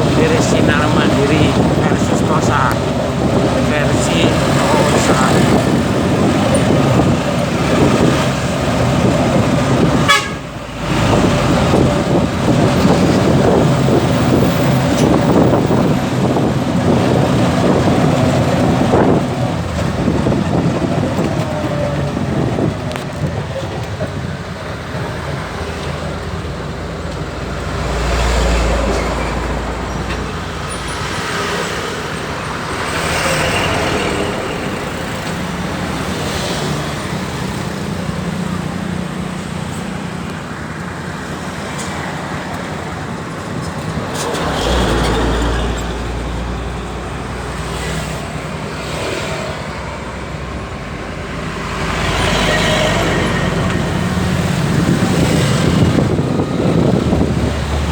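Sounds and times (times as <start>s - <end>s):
large vehicles passing: 0.0s - 57.9s
road and engine noise: 0.0s - 57.9s.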